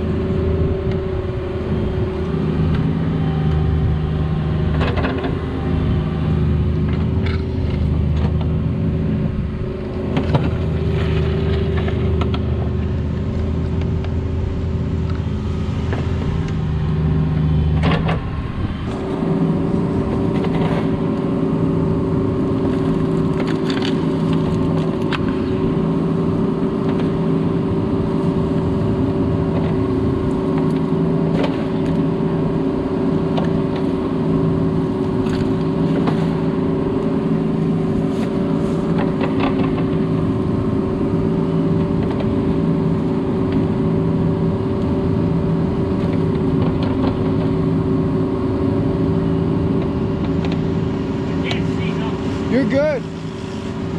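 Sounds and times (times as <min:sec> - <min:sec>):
excavator diesel engine digging: 0:00.0 - 0:53.9.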